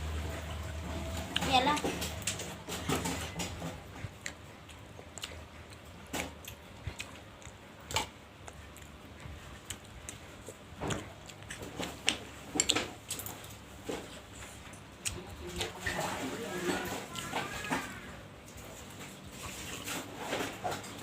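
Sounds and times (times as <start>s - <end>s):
chewing: 0.5s - 21.0s.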